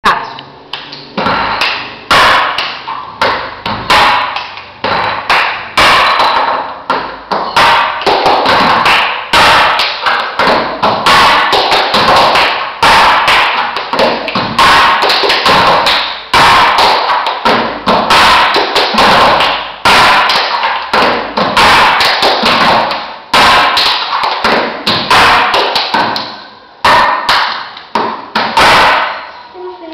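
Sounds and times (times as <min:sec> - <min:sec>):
drumming on metal cans: 0:01.2 - 0:29.2.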